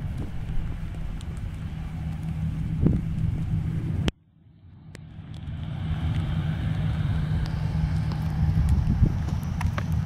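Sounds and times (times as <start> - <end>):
jet engines rumbling: 0.0 - 10.0
steady low hum: 0.0 - 10.0.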